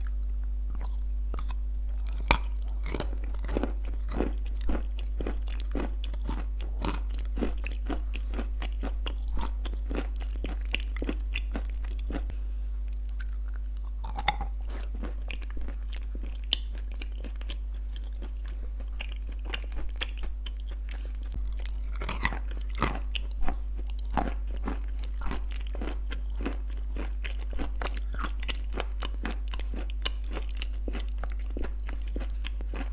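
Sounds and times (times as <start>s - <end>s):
chewing crunchy cookies: 0.0s - 32.9s.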